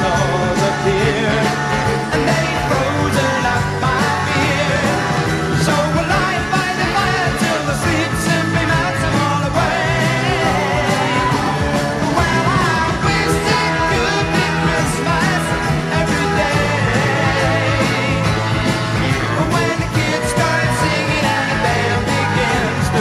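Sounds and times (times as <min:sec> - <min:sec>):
pop-rock song with singing: 0:00.0 - 0:23.0.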